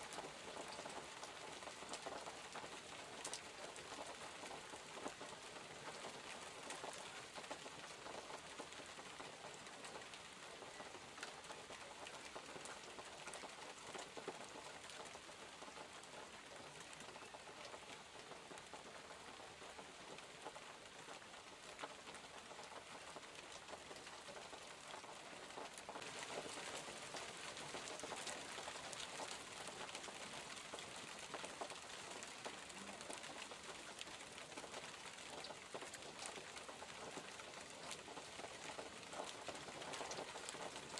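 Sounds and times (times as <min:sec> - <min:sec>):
rain pattering on surfaces: 0:00.0 - 0:40.9.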